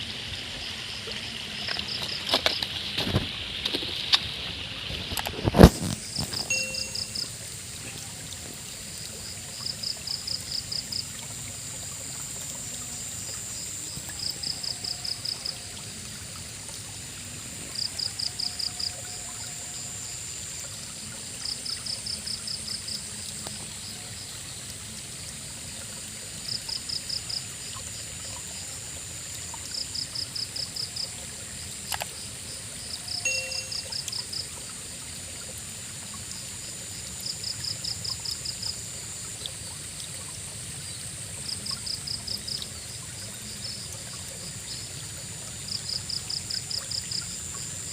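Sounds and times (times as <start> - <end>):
insects droning: 0.0 - 47.9
river water flowing: 0.0 - 47.9.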